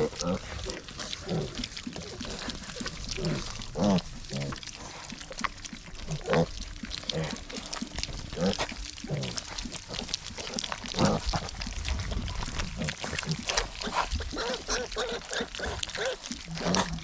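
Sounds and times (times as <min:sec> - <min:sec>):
clicking of piglets eating: 0:00.0 - 0:17.0
piglets squealing and grunting: 0:00.0 - 0:17.0.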